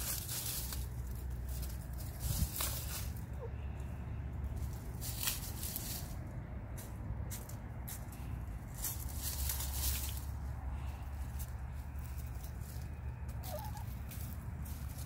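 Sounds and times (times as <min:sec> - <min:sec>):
hens scratching in dry leaves: 0:00.0 - 0:15.0.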